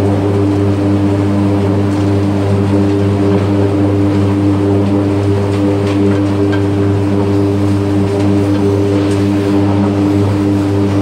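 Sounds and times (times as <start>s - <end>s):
electric arc furnace hum: 0.0s - 11.0s.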